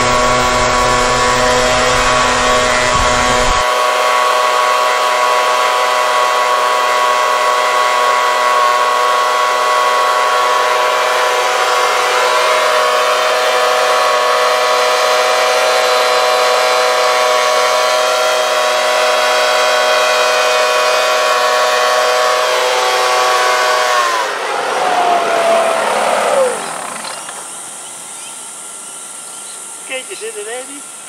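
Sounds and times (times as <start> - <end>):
leaf blower engine buzzing: 0.0 - 31.0.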